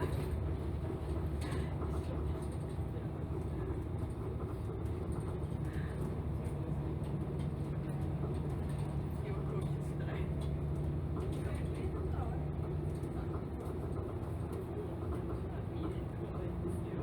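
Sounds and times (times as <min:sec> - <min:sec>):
bus engine and road noise hum: 0:00.0 - 0:17.0.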